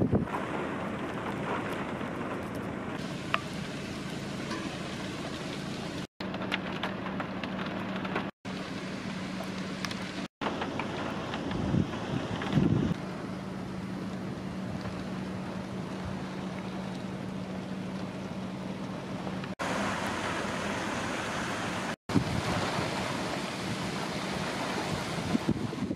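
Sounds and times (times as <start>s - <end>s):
hurricane wind rushing: 0.0s - 6.1s, 9.1s - 25.9s.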